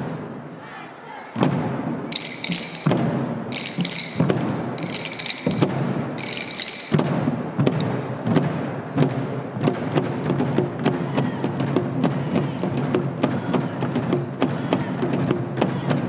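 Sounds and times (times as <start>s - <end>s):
barrel drums struck with sticks: 1.4s - 16.0s.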